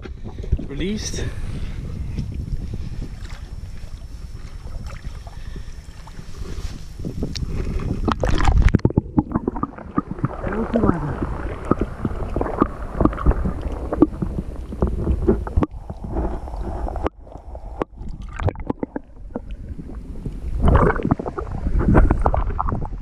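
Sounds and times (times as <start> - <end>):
shallow water sloshing and splashing: 0.0 - 23.0
wind rumbling on microphone: 0.0 - 23.0.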